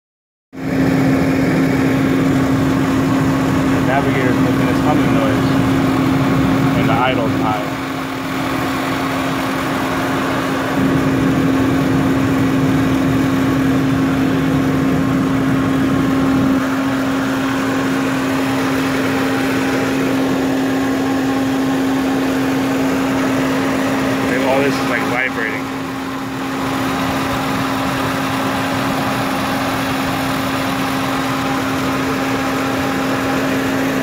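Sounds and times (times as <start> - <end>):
engine idling with intake hum: 0.6 - 34.0.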